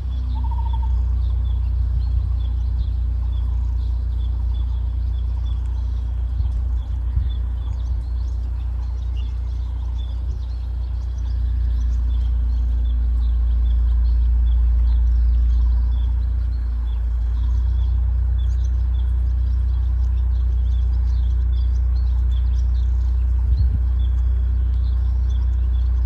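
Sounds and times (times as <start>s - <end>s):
birds chirping: 0.0s - 26.0s
heavy low rumble: 0.0s - 26.0s.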